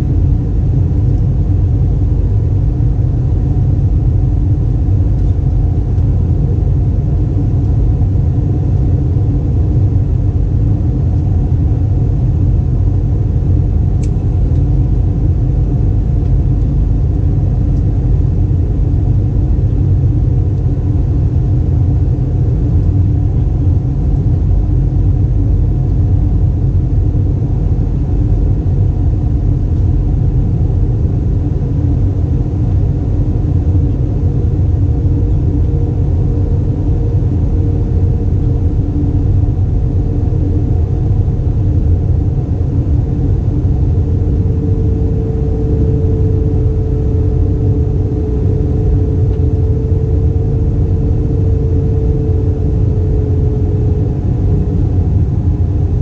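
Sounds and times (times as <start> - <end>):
airplane cabin engine rumble: 0.0 - 56.0
faint hum: 0.0 - 56.0.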